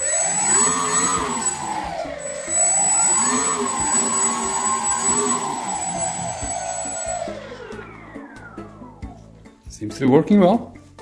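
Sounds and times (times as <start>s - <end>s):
high-pitched whistle: 0.0s - 9.3s
electric motor and propeller whine: 0.0s - 9.6s.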